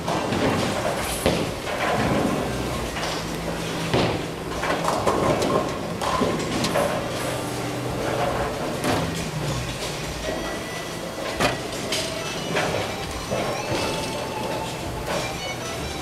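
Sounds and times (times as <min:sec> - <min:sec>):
bowling balls and pins clattering: 0:00.0 - 0:16.0
machinery hum: 0:00.0 - 0:16.0.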